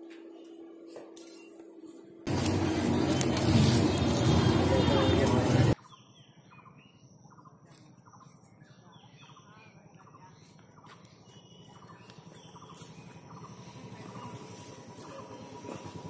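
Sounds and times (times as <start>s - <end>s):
faint birds chirping: 3.0s - 16.0s.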